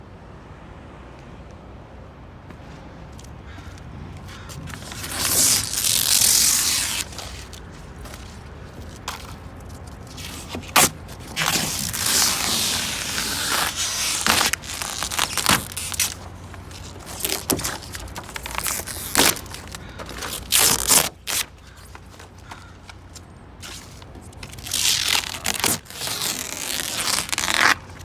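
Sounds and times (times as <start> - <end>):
rubber coating peeling off: 4.5 - 28.0.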